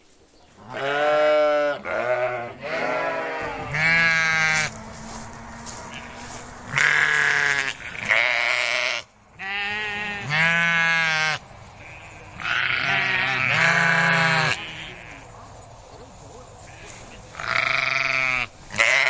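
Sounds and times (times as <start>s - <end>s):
goat bleating: 0.7s - 5.0s, 5.7s - 15.3s, 16.7s - 19.0s.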